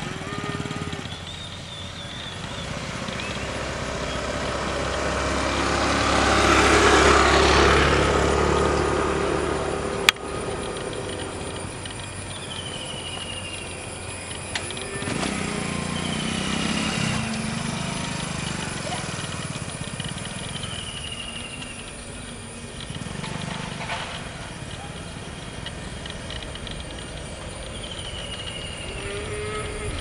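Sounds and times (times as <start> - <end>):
birds chirping: 0.0 - 30.0
jet engines roaring: 2.3 - 30.0.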